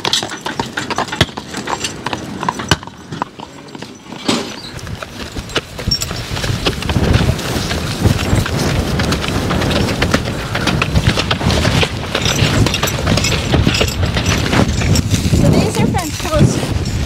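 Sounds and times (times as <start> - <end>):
horse hooves clopping on soft ground: 0.0 - 17.0
wooden sled scraping and knocking: 0.0 - 17.0.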